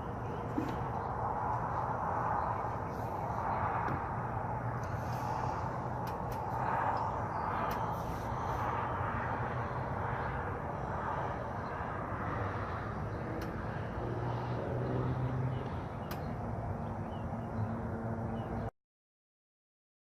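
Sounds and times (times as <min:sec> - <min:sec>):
low engine-like hum: 0:00.0 - 0:18.7.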